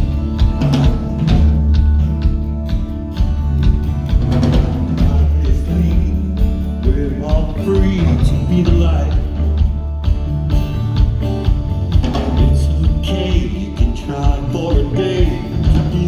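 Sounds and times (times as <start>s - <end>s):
bass line: 0.0s - 16.0s
drum kit hits: 0.0s - 16.0s
live band playing: 0.0s - 16.0s.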